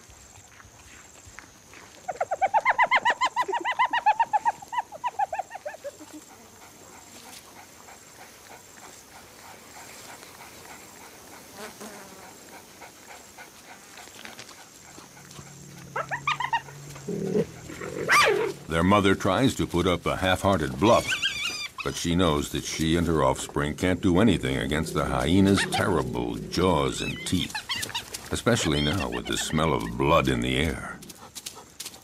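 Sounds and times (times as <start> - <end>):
cheetah chirping: 2.1 - 13.9, 14.8 - 30.8.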